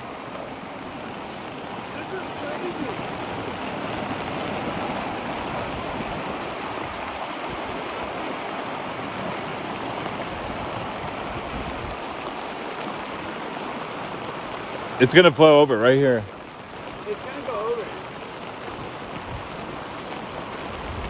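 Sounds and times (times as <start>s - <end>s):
floodwater rushing down a creek: 0.0s - 21.0s.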